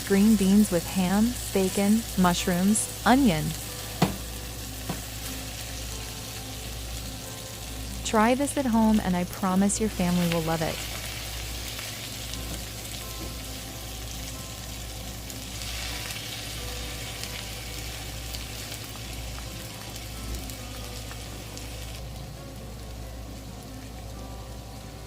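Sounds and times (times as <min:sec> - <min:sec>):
food sizzling in a pot: 0:00.0 - 0:25.0.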